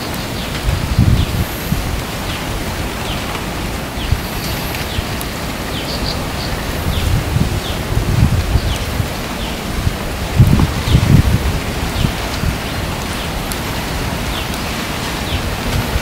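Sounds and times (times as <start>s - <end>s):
wind gusts on microphone: 0.0s - 16.0s.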